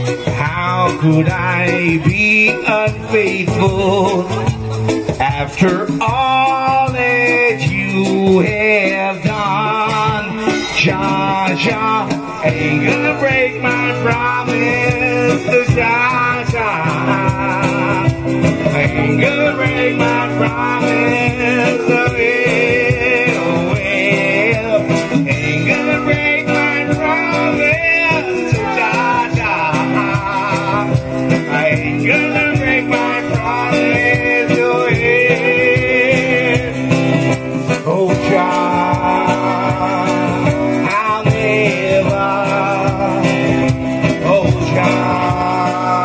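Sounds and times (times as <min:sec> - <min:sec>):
acoustic guitar: 0:00.0 - 0:46.0
bass: 0:00.0 - 0:46.0
live reggae band playing: 0:00.0 - 0:46.0
wavering melodic lead line: 0:00.0 - 0:46.0.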